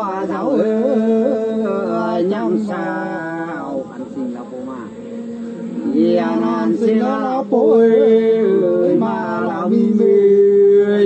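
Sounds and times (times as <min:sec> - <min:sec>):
men singing unaccompanied: 0:00.0 - 0:11.0.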